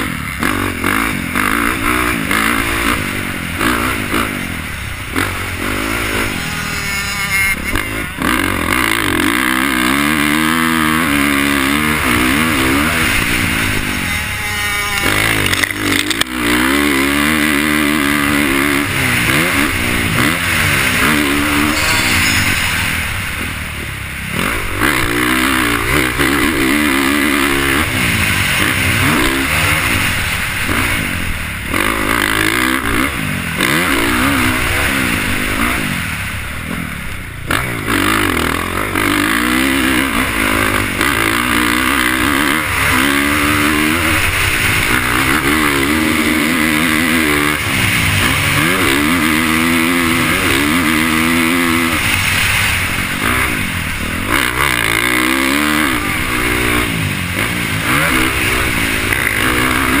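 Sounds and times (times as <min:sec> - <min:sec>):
motocross engine revving: 0:00.0 - 1:00.0.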